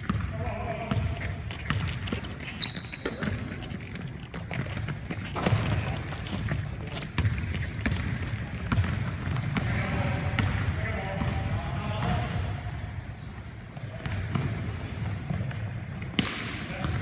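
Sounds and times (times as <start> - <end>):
basketball bouncing: 0.0 - 12.3, 13.9 - 17.0
footfalls on hardwood court: 0.0 - 12.3, 13.9 - 17.0
sneakers squeaking: 0.0 - 17.0.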